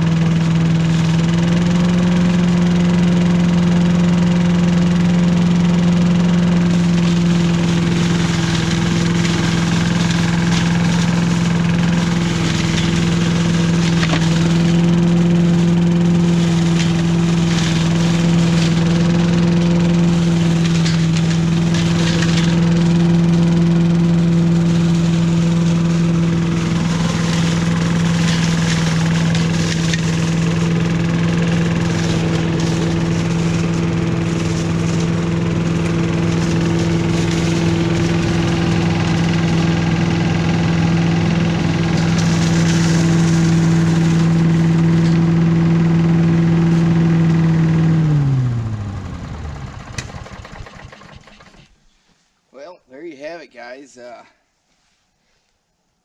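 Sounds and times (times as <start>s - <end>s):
leaf vacuum engine running: 0.0s - 51.9s
debris rattling through vacuum: 4.2s - 51.7s.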